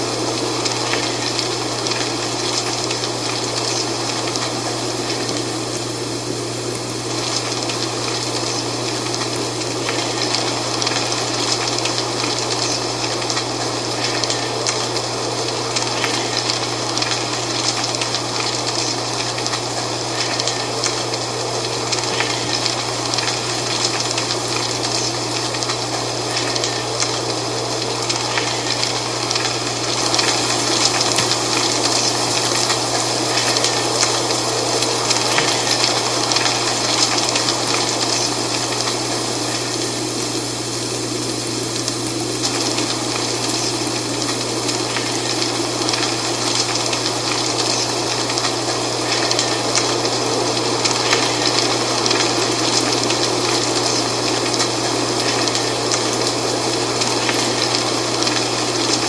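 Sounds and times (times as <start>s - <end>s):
dry leaves rustling in wind: 0.0s - 59.0s.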